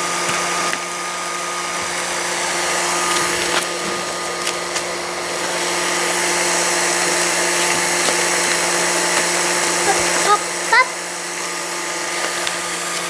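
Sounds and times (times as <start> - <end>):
small fan motor whirring: 0.0 - 13.0.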